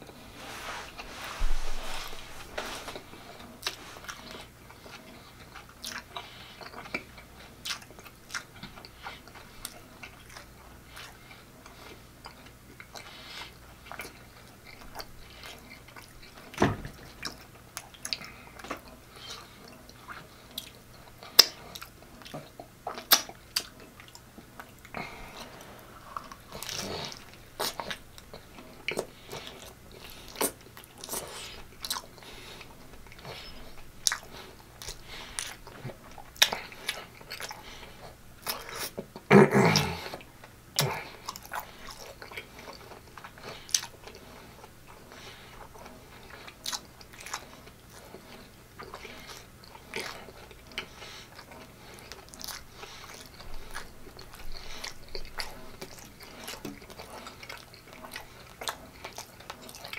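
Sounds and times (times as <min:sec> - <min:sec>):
person chewing with wet smacks: 0:00.0 - 0:59.9.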